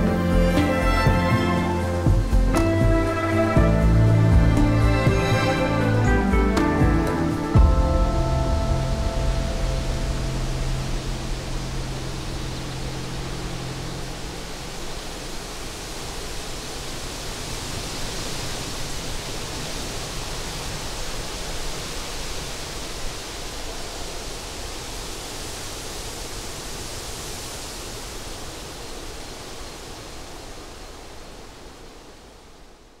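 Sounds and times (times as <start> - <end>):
rushing hiss of nature ambience: 0.0 - 33.0.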